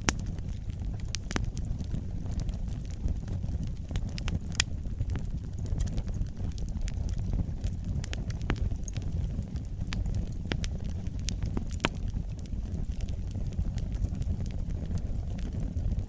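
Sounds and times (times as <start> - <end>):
fire crackling and popping: 0.0 - 16.0
fire rumbling in fireplace: 0.0 - 16.0.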